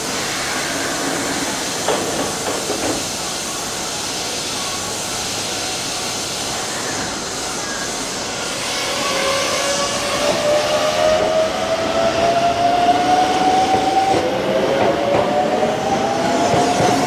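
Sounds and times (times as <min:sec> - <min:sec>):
train air hiss: 0:00.0 - 0:17.0.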